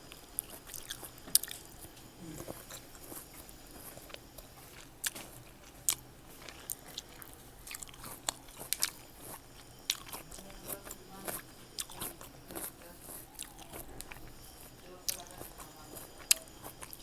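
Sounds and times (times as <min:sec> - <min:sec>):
chewing crisp fruit: 0:00.0 - 0:17.0.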